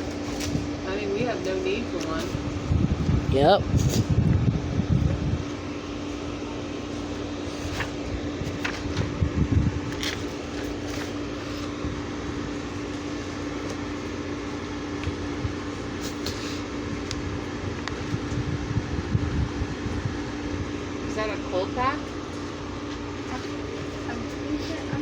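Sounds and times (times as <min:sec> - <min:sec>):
compressor low hum: 0:00.0 - 0:25.0
dehumidifier fan rush: 0:00.0 - 0:25.0.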